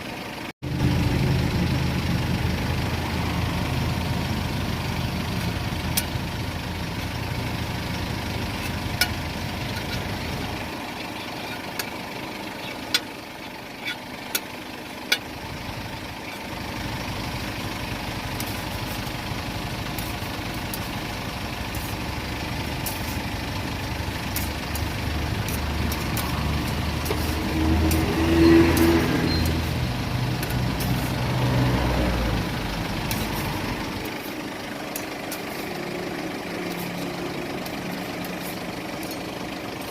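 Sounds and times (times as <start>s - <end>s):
traffic engine rumble: 0.0s - 39.9s.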